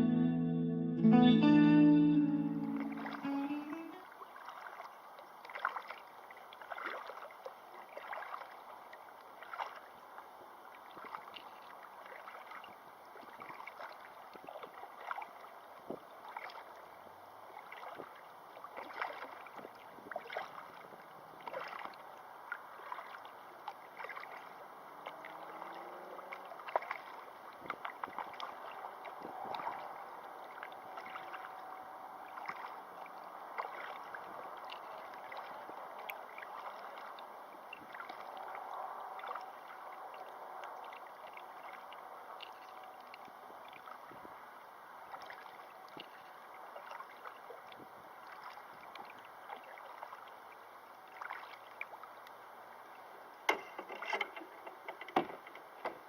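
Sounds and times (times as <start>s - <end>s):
rush of moving water: 2.8s - 56.0s
small water splashes: 4.0s - 56.0s.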